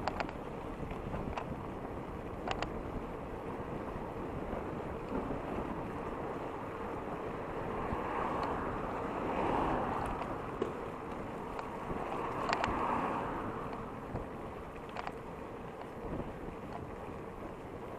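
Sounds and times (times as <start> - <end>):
bike road noise: 0.0 - 17.9
wind rushing over microphone: 0.0 - 17.9.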